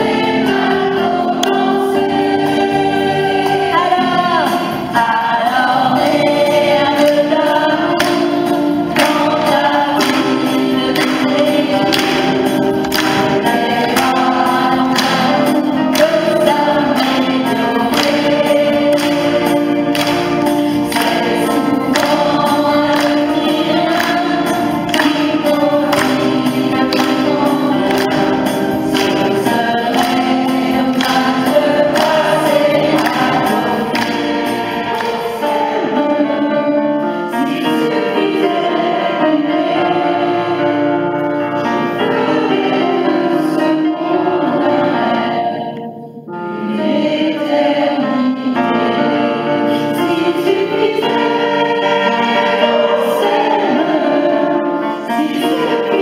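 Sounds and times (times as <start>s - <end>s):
electronic keyboard: 0.0s - 56.0s
mixed choir singing: 0.0s - 56.0s.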